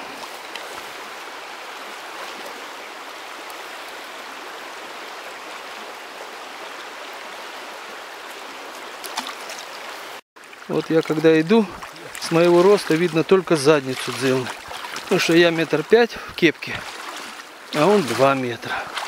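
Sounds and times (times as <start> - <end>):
river rushing over stones: 0.0 - 19.0.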